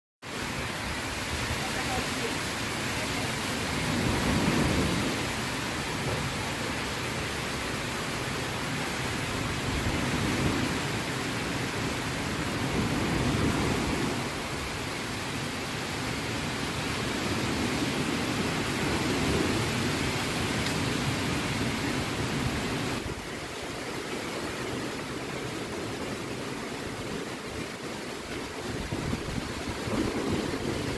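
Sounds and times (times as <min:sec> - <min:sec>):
steady rain falling: 0:00.2 - 0:30.9.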